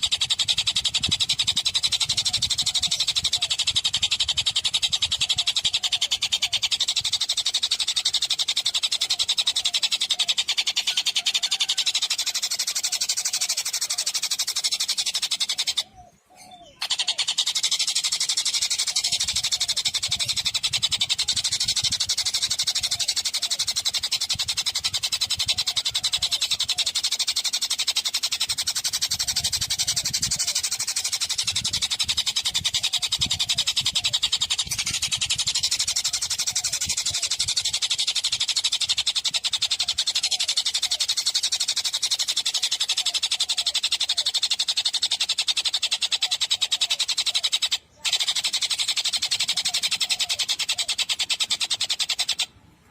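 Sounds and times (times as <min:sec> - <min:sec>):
songbird fast high trill: 0:00.0 - 0:52.6.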